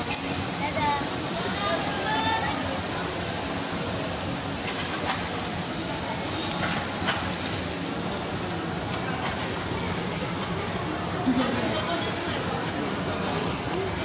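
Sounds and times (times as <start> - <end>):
meat sizzling on a grill: 0.0 - 14.0
restaurant background noise: 0.0 - 14.0.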